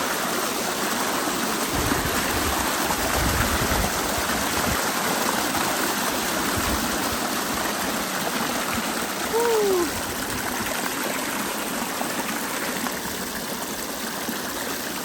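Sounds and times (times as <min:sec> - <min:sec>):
rainwater rushing: 0:00.0 - 0:14.2.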